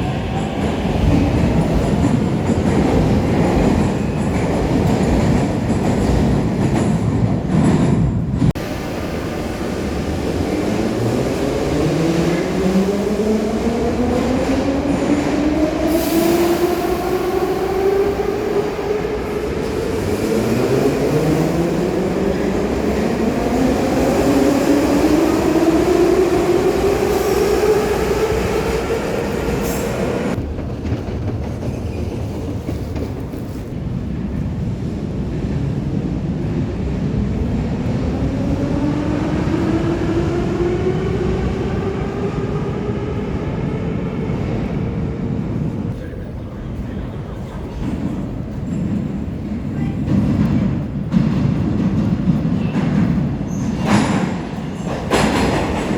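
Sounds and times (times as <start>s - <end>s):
subway wheel and rail rumble: 0.0s - 55.9s.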